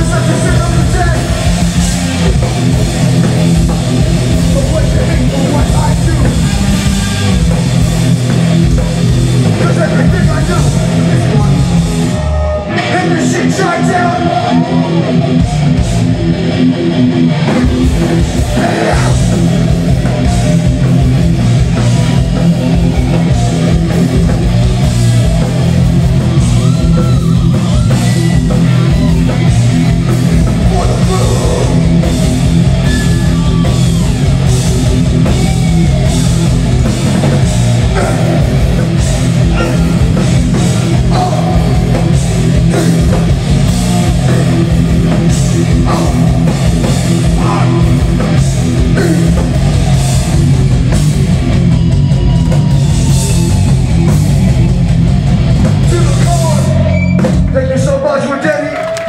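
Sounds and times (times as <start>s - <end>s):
drum kit: 0.0s - 58.1s
bass guitar: 0.0s - 59.0s
distorted electric guitar: 0.0s - 59.0s.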